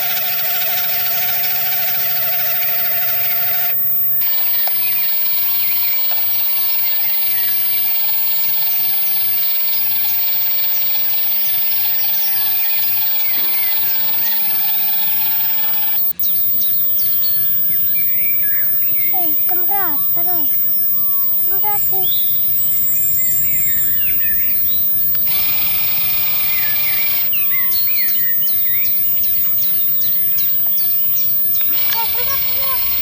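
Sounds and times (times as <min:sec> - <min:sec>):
birds chirping: 0:00.0 - 0:33.0
toy electric motor whining: 0:00.0 - 0:33.0.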